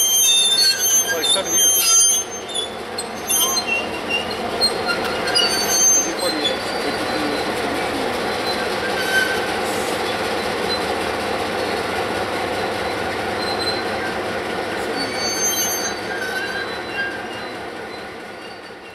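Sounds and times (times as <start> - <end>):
high brake squeals: 0.0 - 7.7, 8.4 - 10.9, 12.8 - 14.2, 14.8 - 18.9
diesel locomotive engine rumbling: 0.0 - 18.9.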